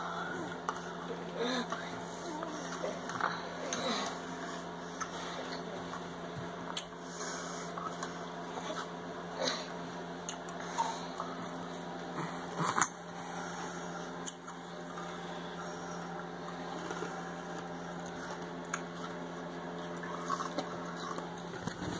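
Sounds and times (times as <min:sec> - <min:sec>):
background hum: 0:00.0 - 0:21.9.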